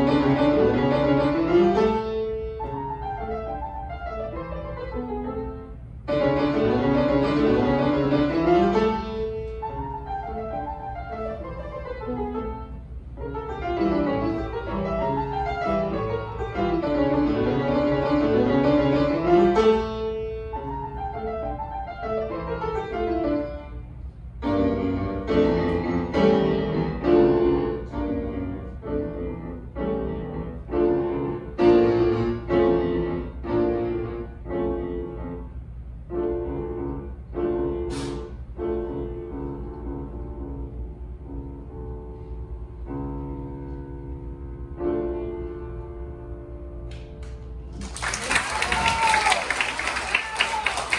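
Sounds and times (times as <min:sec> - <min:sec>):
piano runs: 0:00.0 - 0:50.9.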